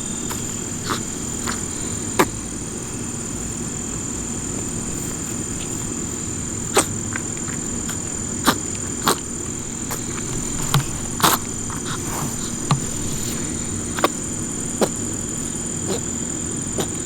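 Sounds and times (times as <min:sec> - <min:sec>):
rabbit sneezing: 0:00.0 - 0:17.0.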